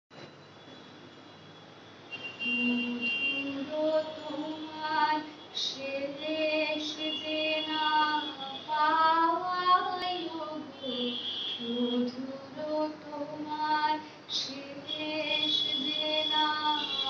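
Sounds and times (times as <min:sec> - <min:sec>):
woman singing: 0:02.5 - 0:17.0.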